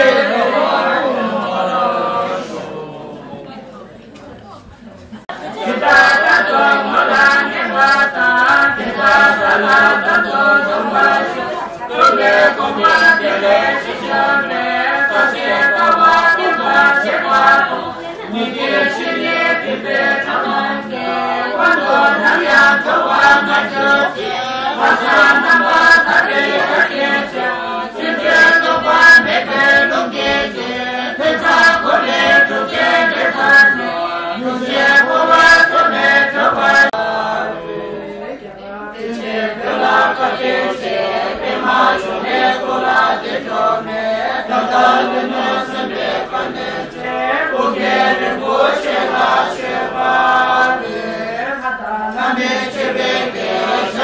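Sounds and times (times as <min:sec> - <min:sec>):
group chanting prayers in unison: 0:00.0 - 0:03.8, 0:05.2 - 0:54.0.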